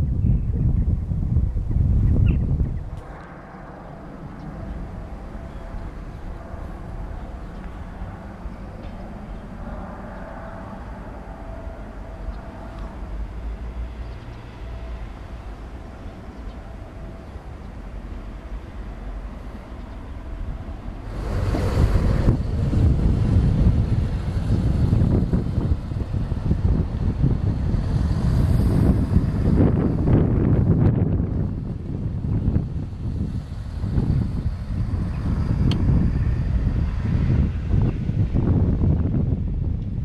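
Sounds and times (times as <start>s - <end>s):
wind buffeting microphone: 0.0s - 40.0s
train rolling slowly past: 2.8s - 39.1s.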